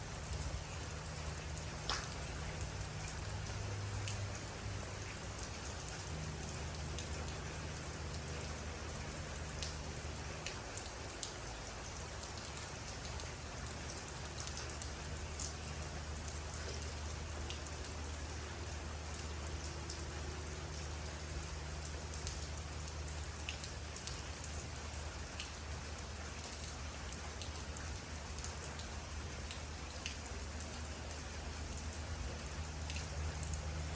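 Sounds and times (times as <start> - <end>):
low steady hum: 0.0 - 33.9
raindrops ticking: 0.0 - 33.9
steady rainfall: 0.0 - 33.9.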